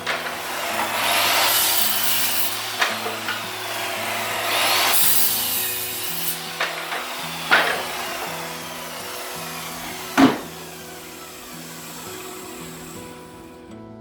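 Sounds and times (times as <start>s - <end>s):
saw cutting wood: 0.0s - 13.8s
background music: 0.0s - 14.0s.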